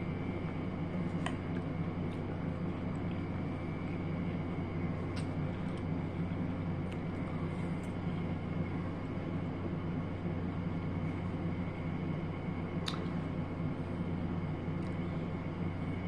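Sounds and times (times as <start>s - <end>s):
faint high whine: 0.0s - 16.0s
steady low hum: 0.0s - 16.0s.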